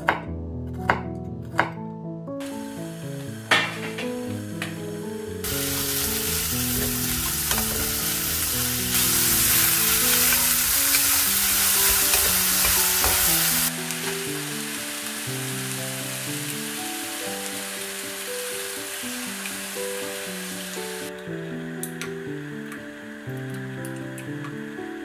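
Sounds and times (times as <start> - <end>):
background music: 0.0 - 25.0
food sizzling in a frying pan: 2.4 - 25.0.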